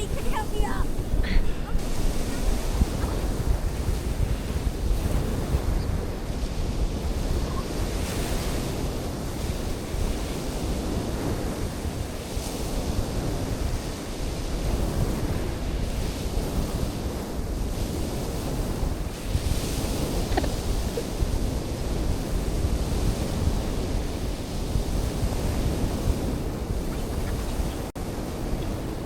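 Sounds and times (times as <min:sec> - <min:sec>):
sea surf washing: 0:00.0 - 0:29.0
wind buffeting microphone: 0:00.0 - 0:29.0.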